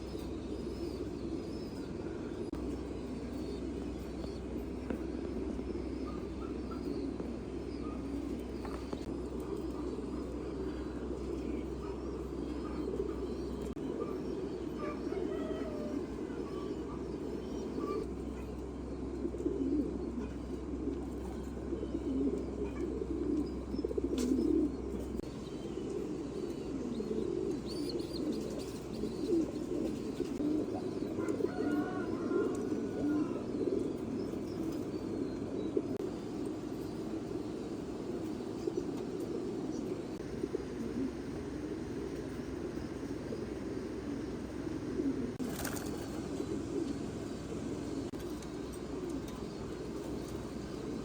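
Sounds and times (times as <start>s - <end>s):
pigeons cooing: 0.0s - 51.0s.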